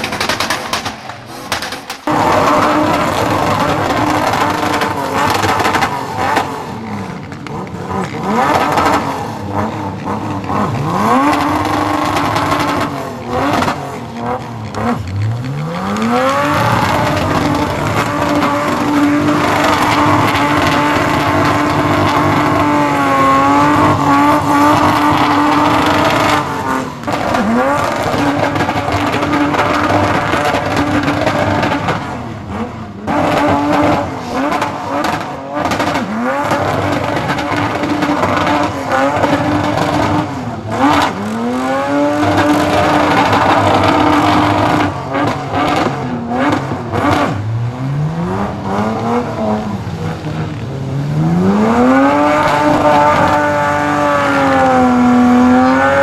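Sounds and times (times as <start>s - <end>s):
car engine revving hard: 0.0s - 56.0s.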